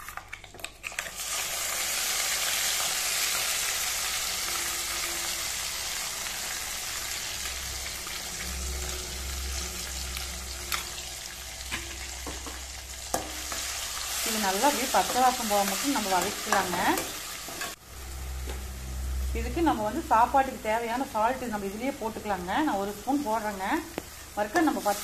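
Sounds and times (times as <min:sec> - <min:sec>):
paste sizzling in hot oil: 0:01.0 - 0:25.0.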